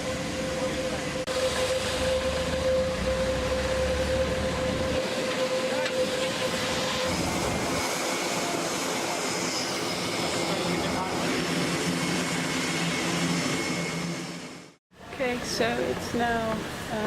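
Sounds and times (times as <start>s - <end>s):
aircraft engines whining: 0.0s - 14.8s.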